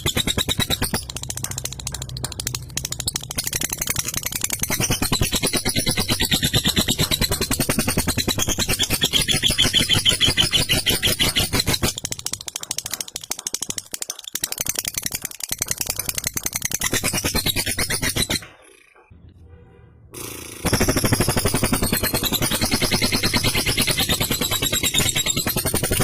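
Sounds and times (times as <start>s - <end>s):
lovebird chattering trill: 0.0s - 19.0s, 20.2s - 26.0s.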